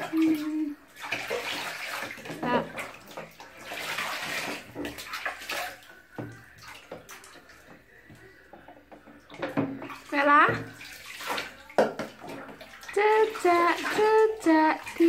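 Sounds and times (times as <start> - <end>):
water poured splashing in bathtub: 0.0 - 15.0.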